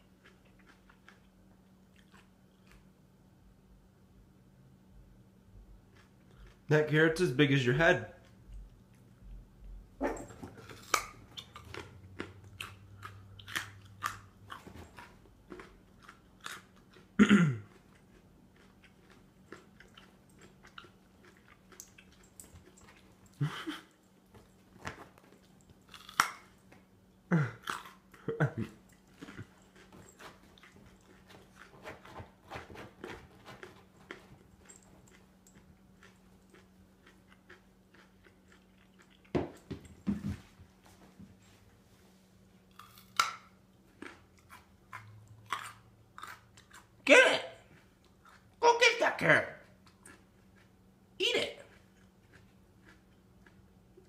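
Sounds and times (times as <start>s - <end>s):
dog crunching a carrot: 0.0s - 3.0s, 5.6s - 40.1s, 42.6s - 54.0s.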